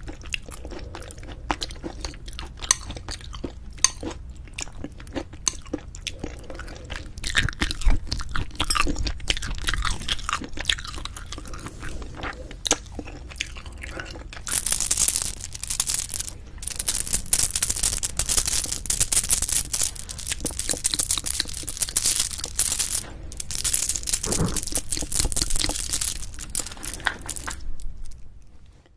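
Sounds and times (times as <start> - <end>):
person chewing crunchy food: 0.0 - 28.9.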